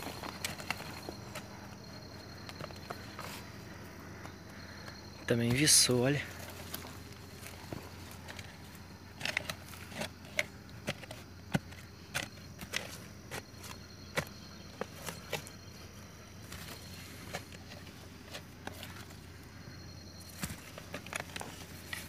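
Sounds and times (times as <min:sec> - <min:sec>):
dry grass crackling and rustling: 0:00.0 - 0:04.3, 0:06.0 - 0:22.0
high insect drone: 0:00.0 - 0:22.0.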